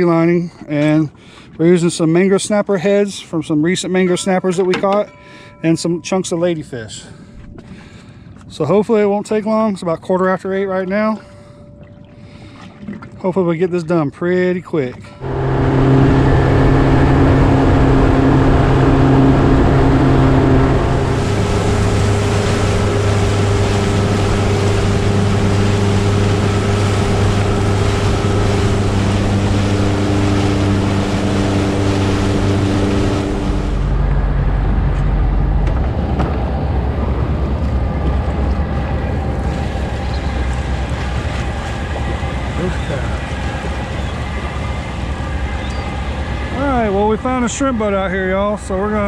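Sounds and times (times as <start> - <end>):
rushing wind and water: 0.0 - 49.0
motorboat engine running: 3.4 - 49.0.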